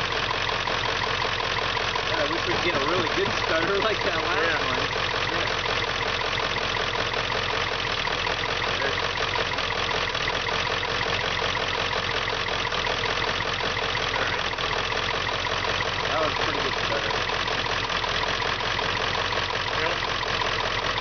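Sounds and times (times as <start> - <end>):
vehicle engine idling roughly: 0.0 - 21.0.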